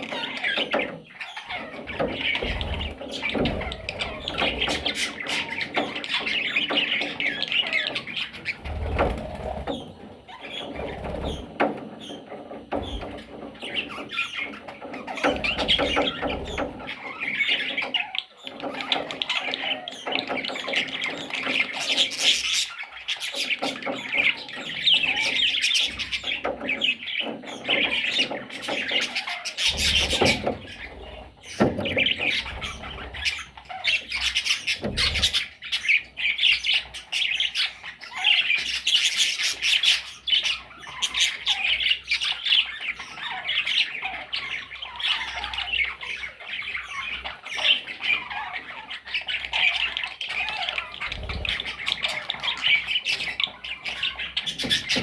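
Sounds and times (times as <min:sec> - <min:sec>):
parrots chattering and squawking: 0:00.0 - 0:55.0.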